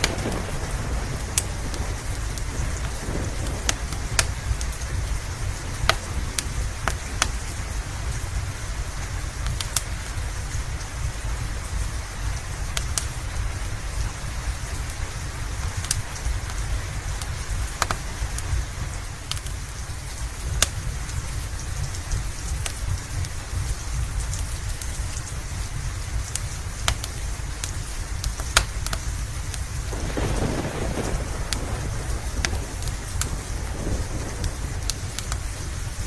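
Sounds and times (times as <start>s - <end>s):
low rumble of thunder: 0.0s - 36.0s
steady rain: 0.0s - 36.0s
wood fire crackling: 0.0s - 36.0s.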